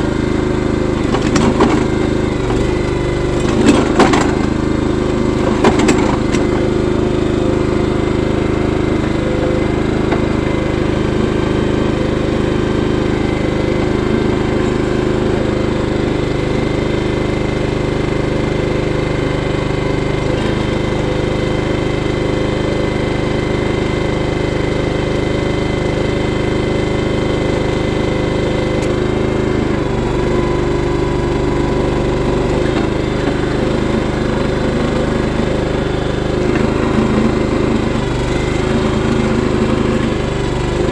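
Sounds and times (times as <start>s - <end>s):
trencher engine digging: 0.0s - 40.9s.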